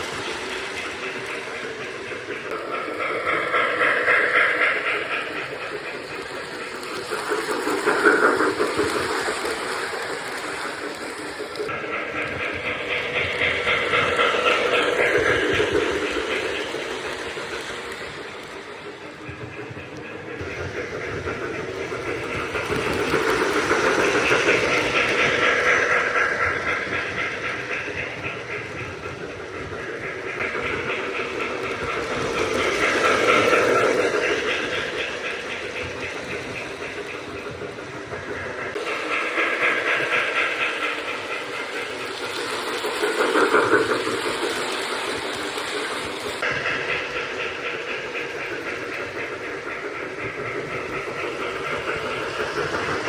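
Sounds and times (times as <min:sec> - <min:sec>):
electronic steam sound: 0:00.0 - 0:53.0
model train wheels rolling: 0:00.0 - 0:53.0.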